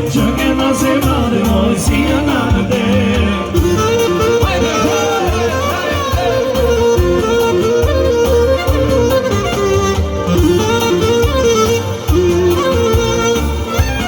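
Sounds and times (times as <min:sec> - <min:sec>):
folk wedding music: 0:00.0 - 0:14.0.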